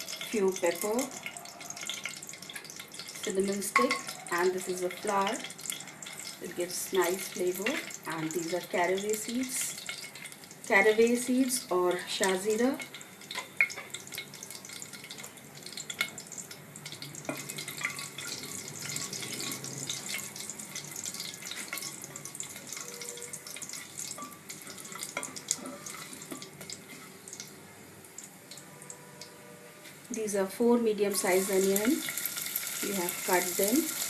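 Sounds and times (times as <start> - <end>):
oil crackles and pops: 0.0 - 11.2, 12.0 - 30.2, 31.2 - 34.0
spices sizzling in hot oil: 0.0 - 34.0.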